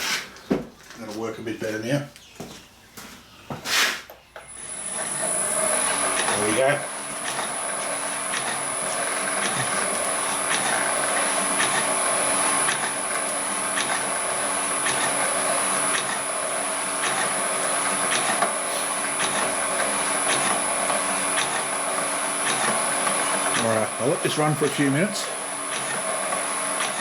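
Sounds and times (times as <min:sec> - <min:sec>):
machine mechanical hum: 0:00.0 - 0:27.0.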